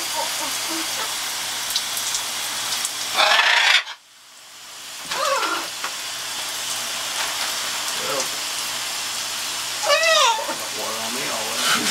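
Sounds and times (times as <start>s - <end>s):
shower water spraying: 0.0s - 11.9s.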